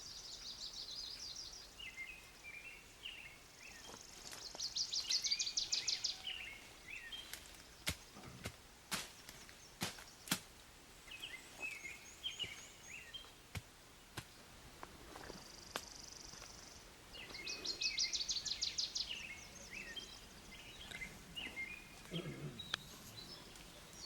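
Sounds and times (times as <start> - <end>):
small birds singing: 0.0 - 24.0.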